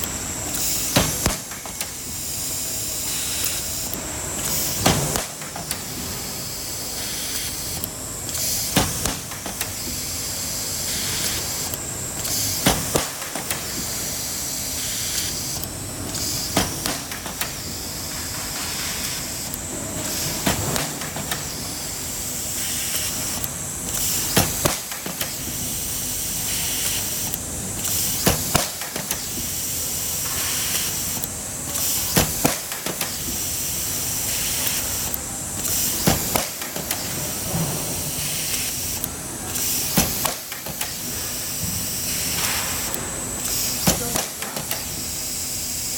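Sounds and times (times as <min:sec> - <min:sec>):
welding machine clanking: 0:00.0 - 0:45.9.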